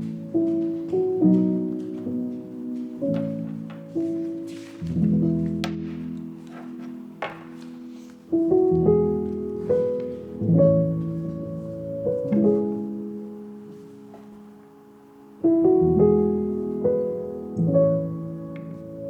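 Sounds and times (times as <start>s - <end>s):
soft piano chords: 0.0s - 19.0s.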